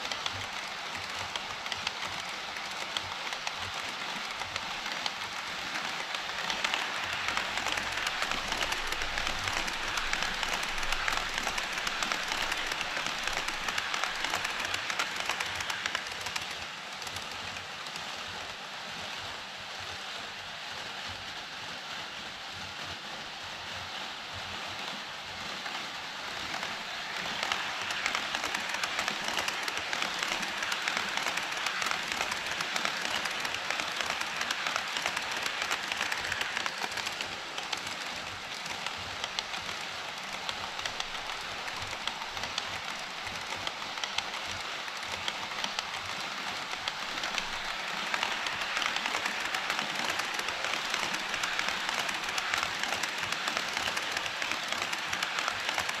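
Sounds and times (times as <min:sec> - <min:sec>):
model train wheels rattling on rail: 0:00.0 - 0:18.6, 0:25.5 - 0:56.0.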